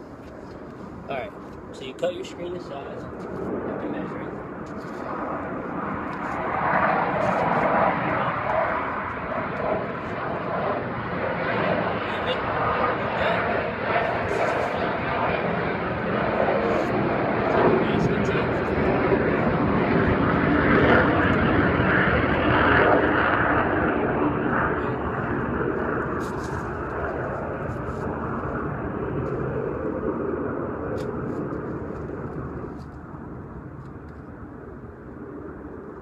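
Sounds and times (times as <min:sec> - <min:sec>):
airplane passing overhead: 0:00.0 - 0:36.0.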